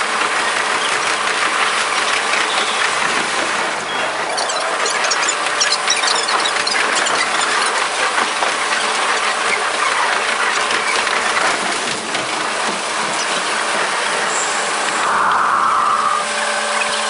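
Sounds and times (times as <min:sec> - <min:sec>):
railcar running noise: 0:00.0 - 0:17.0.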